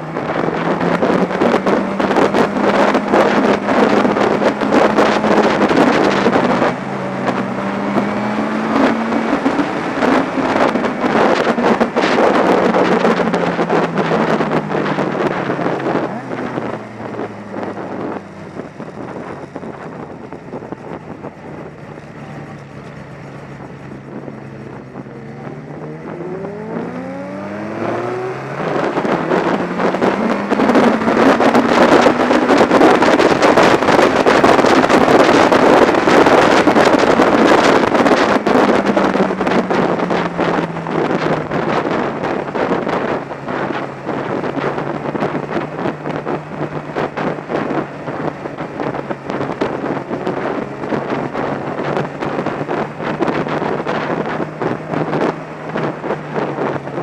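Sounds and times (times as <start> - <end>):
motorcycle engine revving: 0.0 - 57.0
wind rush on microphone: 0.0 - 57.0.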